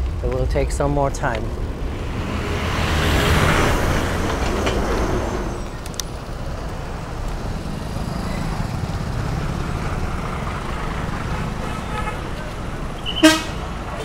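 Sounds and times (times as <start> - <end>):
bus engine rumble passing: 0.0 - 14.0
road traffic noise: 0.0 - 14.0.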